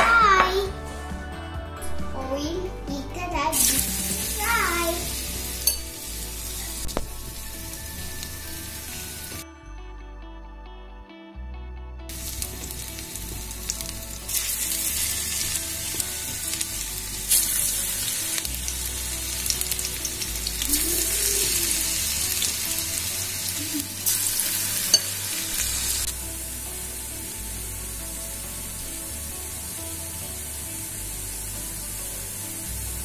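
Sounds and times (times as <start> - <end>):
slices sizzling in hot oil: 3.5 - 9.4, 12.1 - 33.0.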